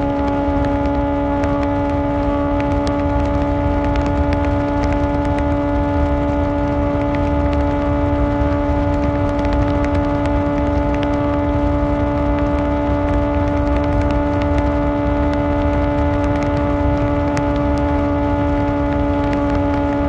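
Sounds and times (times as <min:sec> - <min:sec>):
low rumble: 0:00.0 - 0:20.0
motorcycle engine running: 0:00.0 - 0:20.0.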